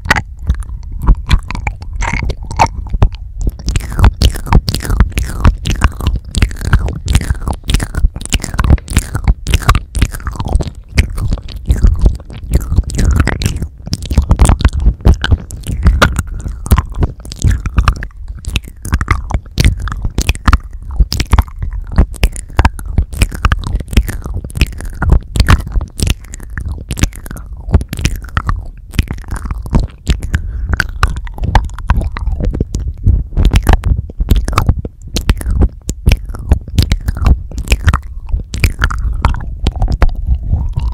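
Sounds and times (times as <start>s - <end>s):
mouth thuds against microphone: 0.0s - 40.9s
wet mouth clicks and lip smacks: 0.0s - 40.9s.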